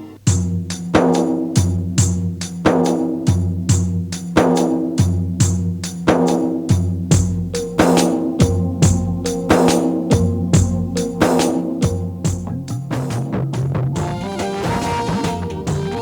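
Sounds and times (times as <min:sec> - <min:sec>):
music with percussion and bass: 0:00.0 - 0:16.0.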